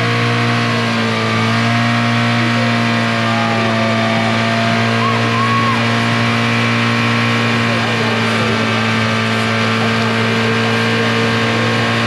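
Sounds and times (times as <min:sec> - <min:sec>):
car engine running loudly: 0:00.0 - 0:12.0.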